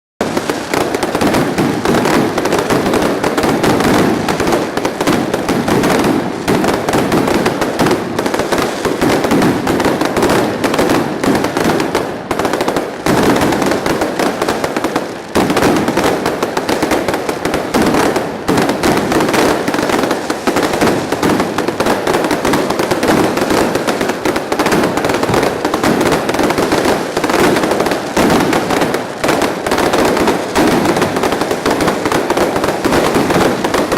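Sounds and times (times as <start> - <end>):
fireworks crackling: 0.2 - 33.9.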